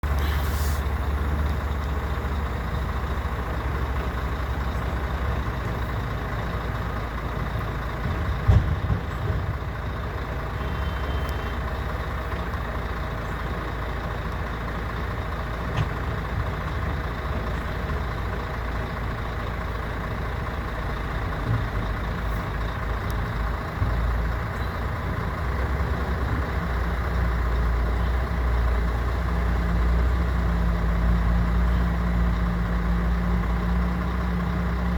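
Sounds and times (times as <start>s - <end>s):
heavy truck engine running: 0.0s - 34.9s.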